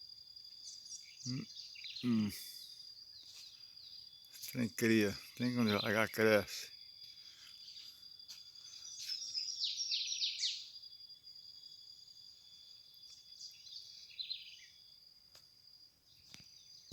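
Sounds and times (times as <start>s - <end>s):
high insect drone: 0.0s - 16.9s
bird chirping: 0.5s - 15.0s.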